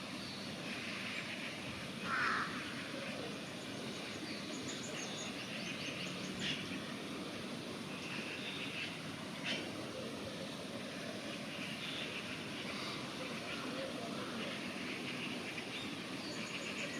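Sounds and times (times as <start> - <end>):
outdoor background noise: 0.0 - 16.9.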